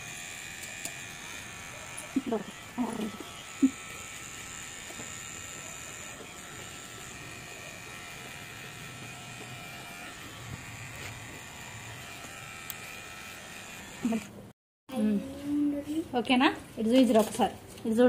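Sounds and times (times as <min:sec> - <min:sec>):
electric hair trimmer buzzing: 0:00.0 - 0:14.5.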